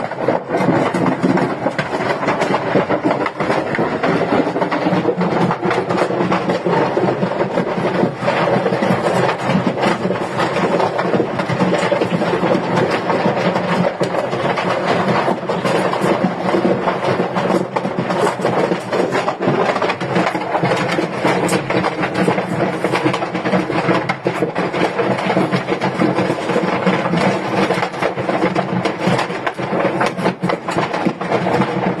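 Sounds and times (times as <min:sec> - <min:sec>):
firecrackers going off: 0:00.0 - 0:30.8.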